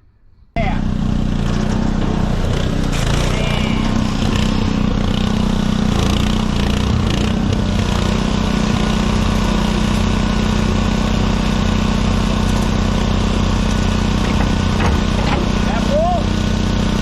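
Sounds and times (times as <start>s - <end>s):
engine idling: 0.6s - 17.0s.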